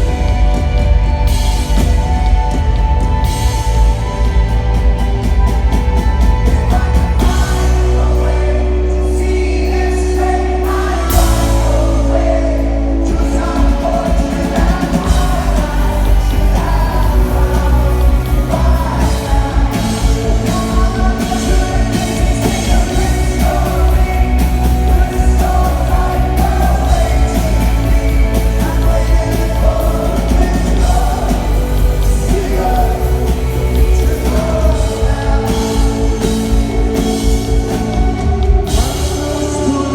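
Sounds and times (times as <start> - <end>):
rock band playing live: 0.0 - 39.9
person singing: 6.6 - 39.9.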